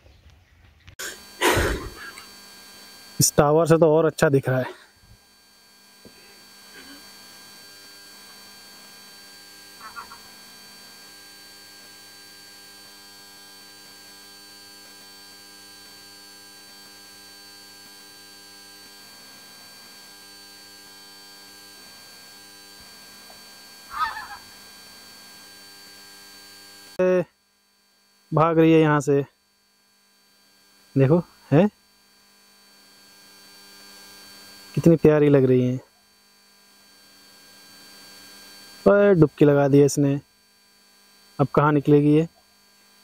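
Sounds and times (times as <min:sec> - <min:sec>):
steady electrical hum: 0:00.2 - 0:43.0.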